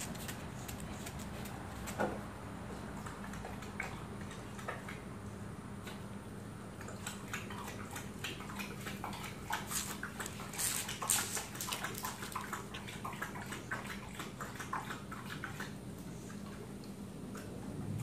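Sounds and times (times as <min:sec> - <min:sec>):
dog lapping water: 0:02.8 - 0:18.0.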